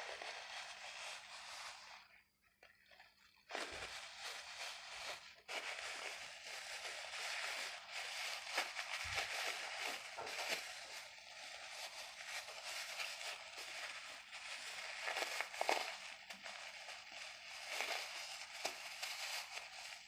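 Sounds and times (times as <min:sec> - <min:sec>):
plastic crackling and rustling: 0:00.0 - 0:20.0.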